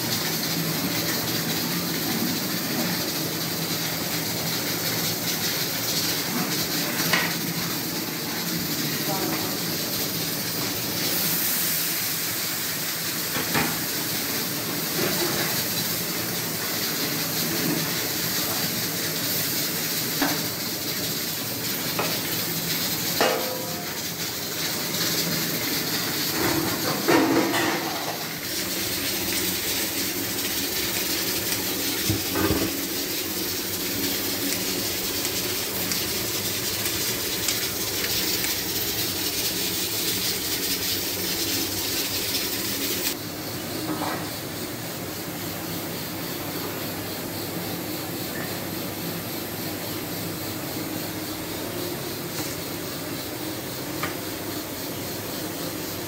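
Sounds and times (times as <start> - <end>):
frying hiss in pot: 0.0 - 56.0.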